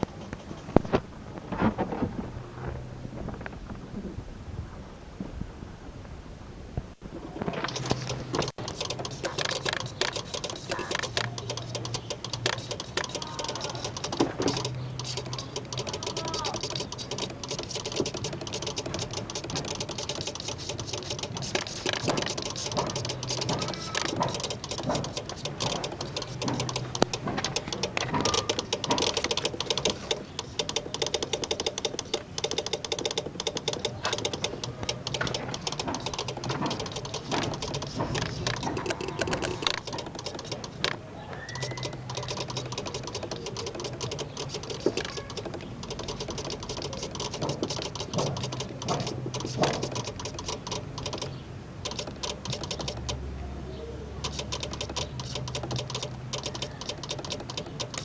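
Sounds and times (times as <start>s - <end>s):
idle control actuator working: 7.5s - 53.2s, 54.2s - 58.0s
relay clicking rapidly: 7.5s - 53.2s, 54.2s - 58.0s.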